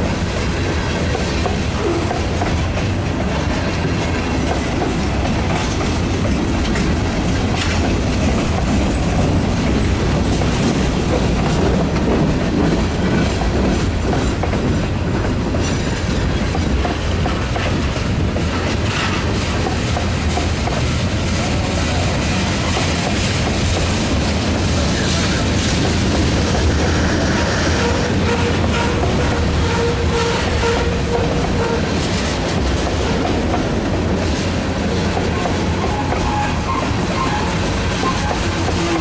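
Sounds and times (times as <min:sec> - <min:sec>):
freight train wheels rumbling on rails: 0:00.0 - 0:39.0
rail clacks: 0:00.0 - 0:39.0.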